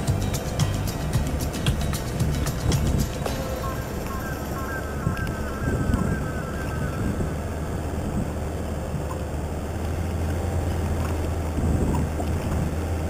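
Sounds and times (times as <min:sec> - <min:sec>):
engine drone: 0:00.0 - 0:13.0
tyres rumbling: 0:00.0 - 0:13.0.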